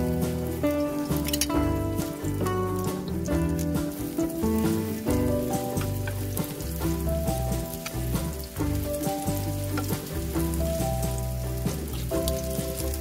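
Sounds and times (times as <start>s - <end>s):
background music: 0.0s - 13.0s
batter sizzling in hot oil: 0.0s - 13.0s.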